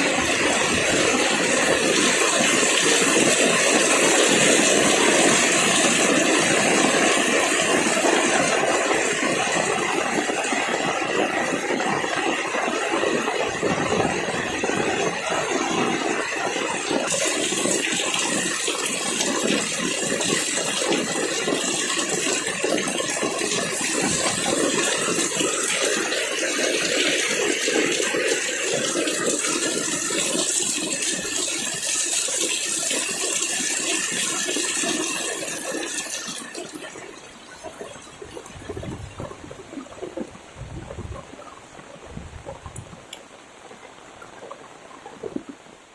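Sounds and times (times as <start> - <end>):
heavy rain pouring: 0.0 - 43.2.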